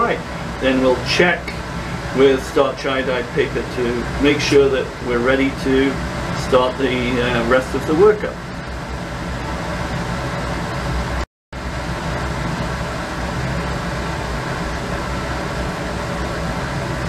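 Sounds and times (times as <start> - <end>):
ventilation hum and hiss: 0.0 - 17.0.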